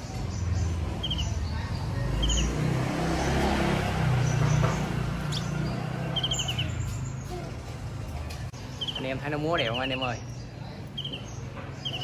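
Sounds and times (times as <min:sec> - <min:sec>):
bird chirping: 0:00.0 - 0:07.7, 0:08.4 - 0:12.0.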